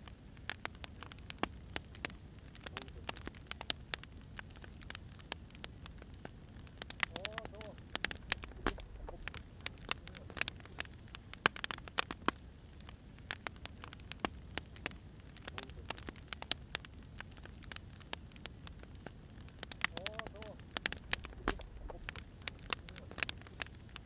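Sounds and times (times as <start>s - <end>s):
firewood crackling and popping: 0.0s - 24.0s
low fire rumble: 0.0s - 24.0s.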